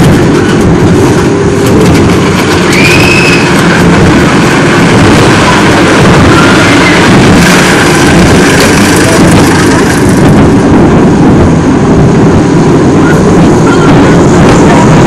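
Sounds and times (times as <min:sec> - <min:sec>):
ride train rumbling on steel track: 0:00.0 - 0:15.0.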